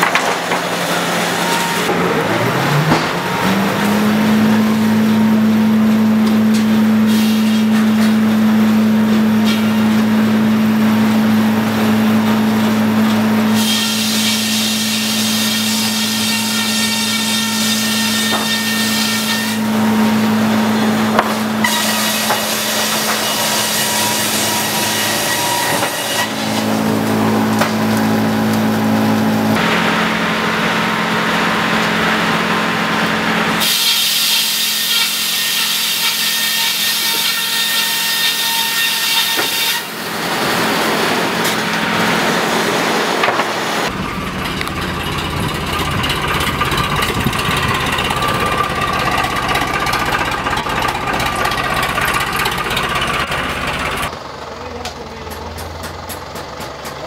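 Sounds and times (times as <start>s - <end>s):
saw cutting timber: 0.0s - 54.2s
sawmill machinery humming: 0.0s - 57.0s.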